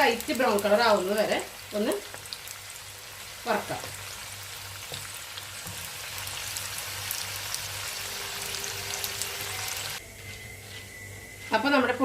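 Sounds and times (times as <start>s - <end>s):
lentils sizzling in hot oil: 0.0s - 12.0s.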